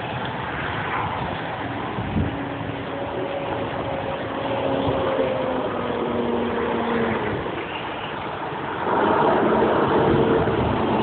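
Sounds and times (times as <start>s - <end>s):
cars passing on wet street: 0.0s - 11.0s
vehicle engine passing: 1.8s - 11.0s.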